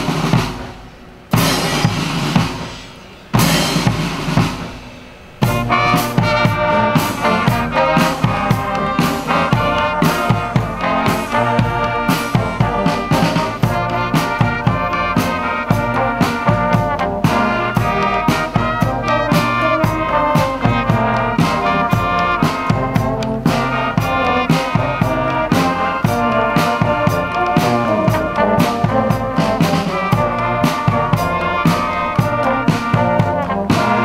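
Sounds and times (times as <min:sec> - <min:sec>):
brass band playing a tune: 0:00.0 - 0:34.0
loud drum hits: 0:00.0 - 0:34.0
steady drum beat: 0:00.0 - 0:34.0.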